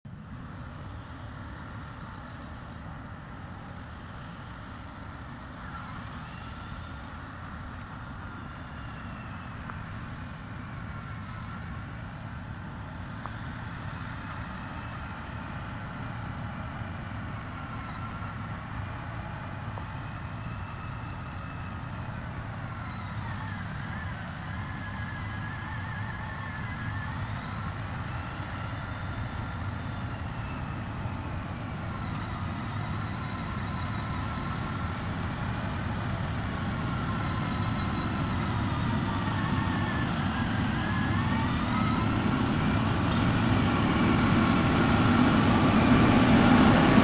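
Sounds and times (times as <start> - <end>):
faint high whines: 0.1 - 47.0.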